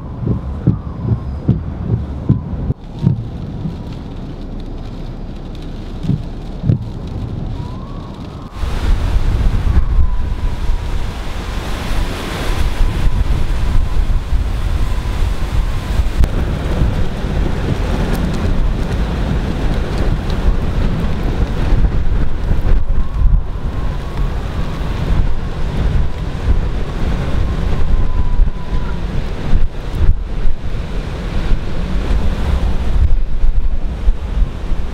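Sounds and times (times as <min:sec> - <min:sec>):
rushing wind and rain: 0:00.0 - 0:34.9
wind buffeting microphone: 0:00.0 - 0:34.9.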